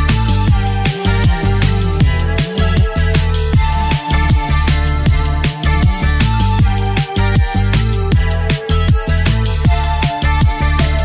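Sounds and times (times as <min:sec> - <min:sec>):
deep bass kicks: 0:00.0 - 0:11.0
electronic music with drum beat: 0:00.0 - 0:11.0.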